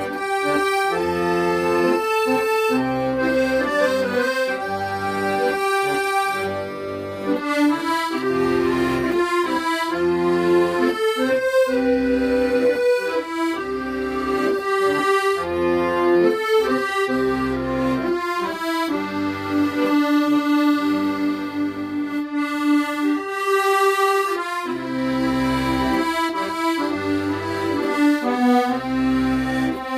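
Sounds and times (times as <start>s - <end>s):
accordion playing slow ballad: 0.0s - 29.9s.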